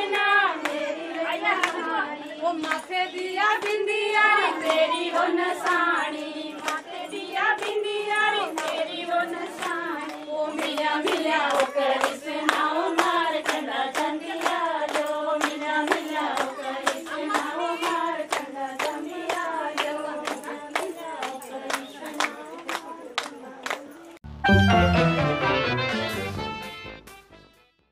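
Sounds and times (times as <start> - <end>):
women singing folk song: 0.0 - 24.2
rhythmic hand clapping: 0.0 - 26.4.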